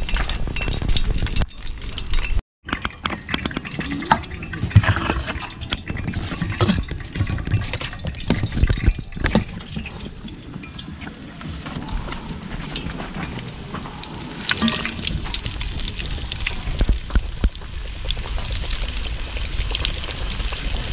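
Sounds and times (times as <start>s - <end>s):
water splashing and pouring: 0.0s - 12.3s, 13.7s - 20.9s.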